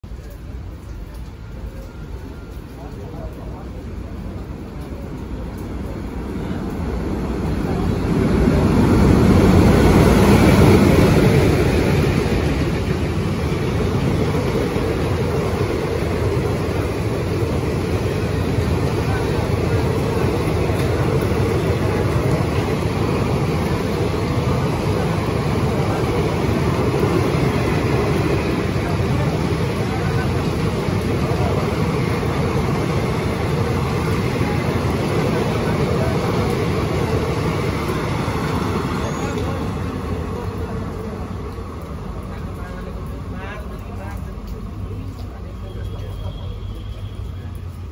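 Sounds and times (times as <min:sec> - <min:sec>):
coaches rumbling over rails: 0:00.0 - 0:47.9
diesel locomotives passing: 0:00.0 - 0:47.9
rain falling: 0:00.0 - 0:47.9.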